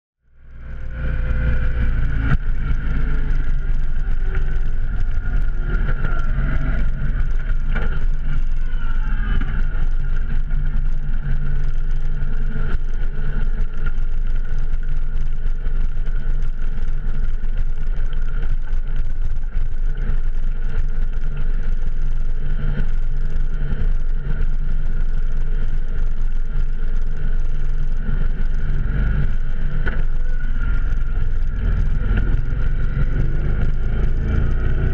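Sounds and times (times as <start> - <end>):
motorcycle engine droning: 0.2 - 34.9.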